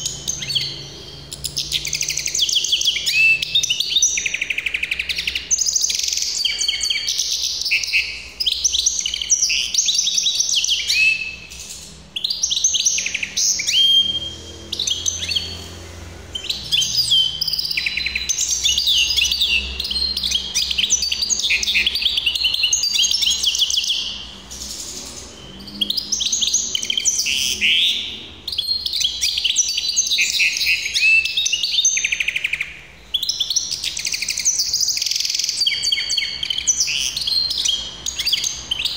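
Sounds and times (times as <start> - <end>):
finch singing trills: 0.0 - 38.9.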